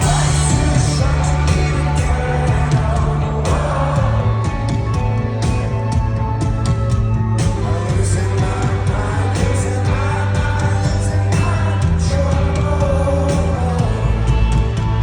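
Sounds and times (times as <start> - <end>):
person singing: 0.0 - 4.9, 7.5 - 14.8
rock band playing live: 0.0 - 15.0.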